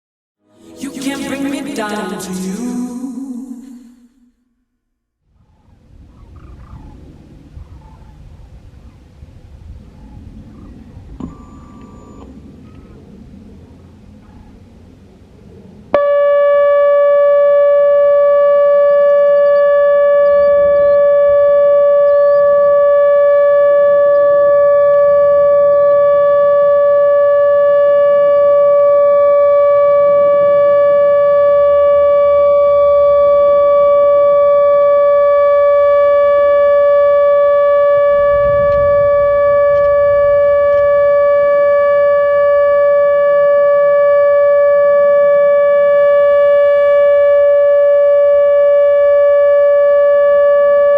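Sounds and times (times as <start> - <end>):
warning siren steady tone: 5.3 - 14.6, 15.9 - 50.9.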